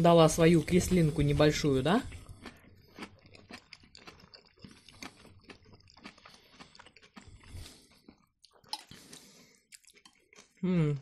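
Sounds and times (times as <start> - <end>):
chewing and soft crunching: 0.0 - 11.0.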